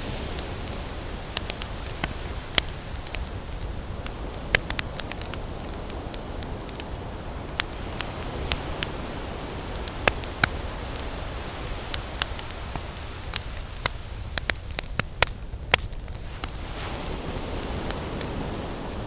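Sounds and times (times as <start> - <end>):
campfire crackling and popping: 0.0 - 19.0
surf washing: 0.0 - 19.0.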